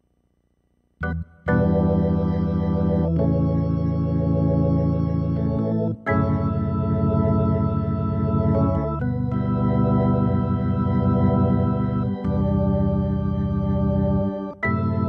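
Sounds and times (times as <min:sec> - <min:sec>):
organ chords: 0:01.0 - 0:15.0.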